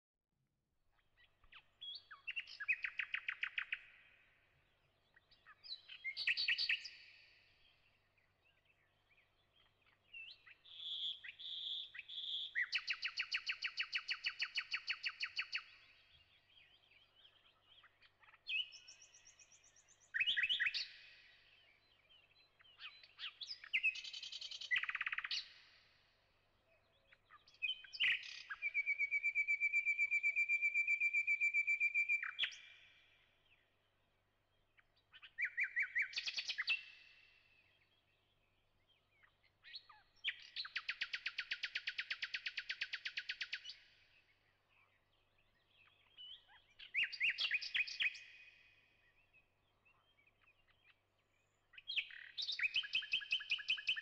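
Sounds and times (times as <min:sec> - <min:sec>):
songbird chirping and trilling: 0:00.9 - 0:54.0.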